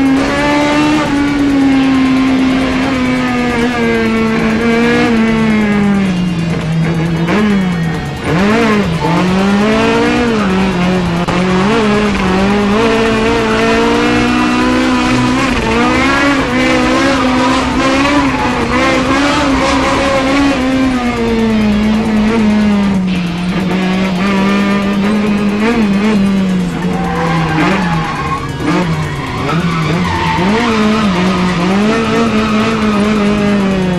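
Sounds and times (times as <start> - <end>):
car engine revving high: 0.0 - 33.9
tyres squealing: 1.3 - 22.4, 23.0 - 33.9.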